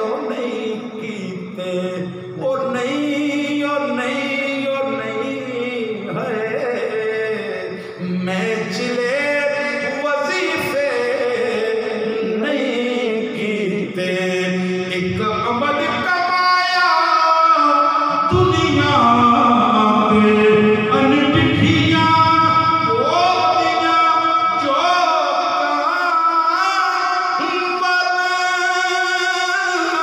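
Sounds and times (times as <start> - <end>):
man singing devotional song: 0.0 - 30.0.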